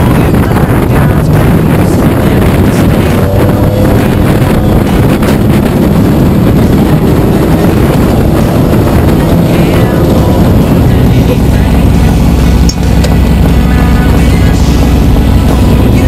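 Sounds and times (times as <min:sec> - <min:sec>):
vehicle engine running: 0:00.0 - 0:16.0
wind buffeting microphone: 0:00.0 - 0:16.0.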